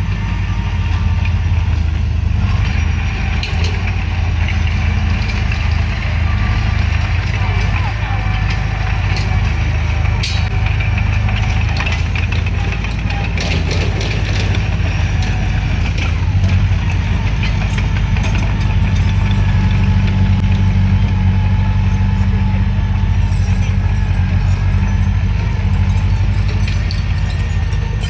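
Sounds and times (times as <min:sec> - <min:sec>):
bulldozer diesel engine running: 0:00.0 - 0:28.0
metal clanks: 0:02.6 - 0:20.9, 0:22.9 - 0:28.0.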